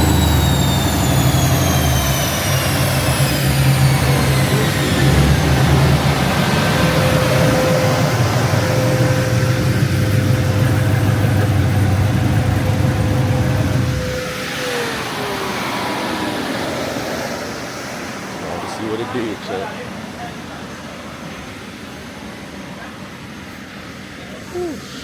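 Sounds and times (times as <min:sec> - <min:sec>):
car engine rumbling: 0:00.0 - 0:22.5
steady whine: 0:00.0 - 0:25.0.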